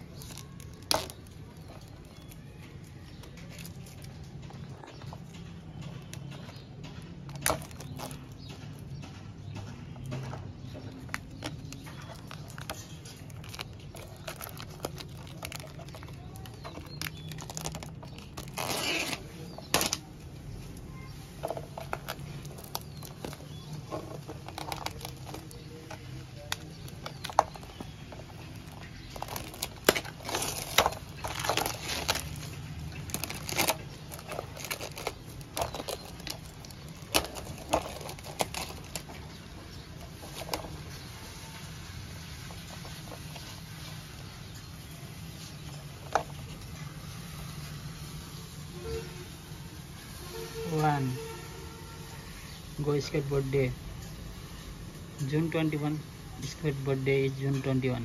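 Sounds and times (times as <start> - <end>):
plastic film peeling and crinkling: 0.0 - 55.3.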